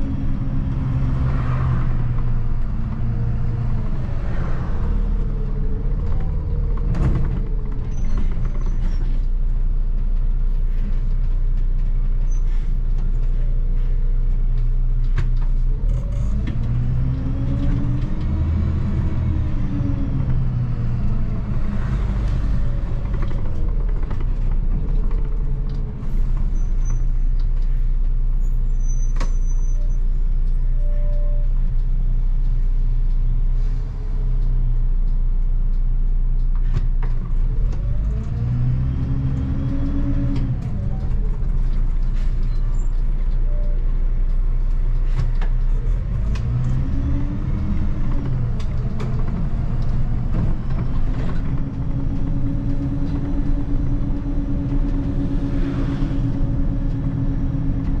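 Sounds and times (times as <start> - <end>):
bus diesel engine rumbling: 0.0 - 58.0.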